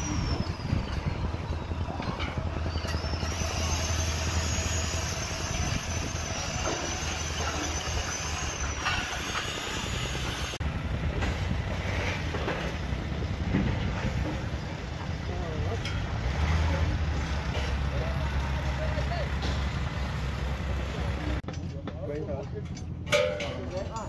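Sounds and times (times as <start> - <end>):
heavy engine rumbling: 0.0 - 24.0.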